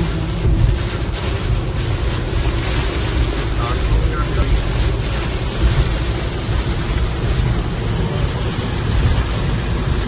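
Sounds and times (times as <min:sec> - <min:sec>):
heavy rain on a car: 0:00.0 - 0:10.0
tyres on a flooded road: 0:00.0 - 0:10.0.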